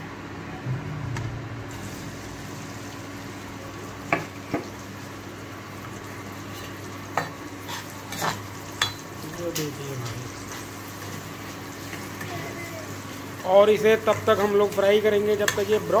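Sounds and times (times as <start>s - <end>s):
onions sizzling in hot oil: 1.7s - 16.0s.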